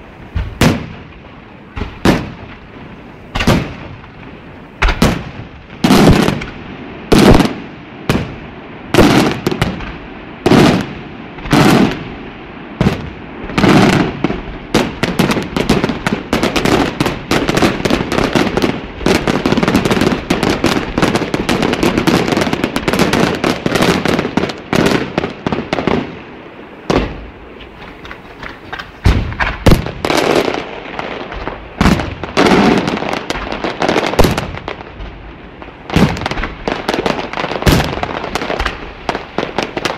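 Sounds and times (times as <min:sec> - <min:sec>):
fireworks bangs: 0:00.0 - 0:39.9
rapid firework crackling: 0:00.0 - 0:39.9.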